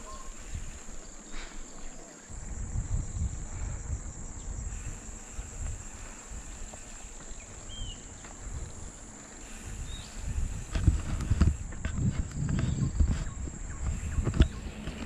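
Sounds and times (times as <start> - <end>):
high-pitched insect buzz: 0.0 - 15.0
wind rumbling on microphone: 0.0 - 15.0.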